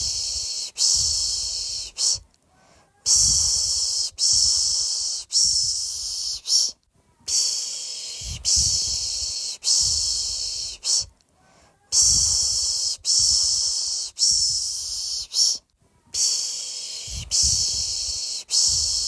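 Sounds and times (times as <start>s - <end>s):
person shushing a baby: 0.0s - 19.0s.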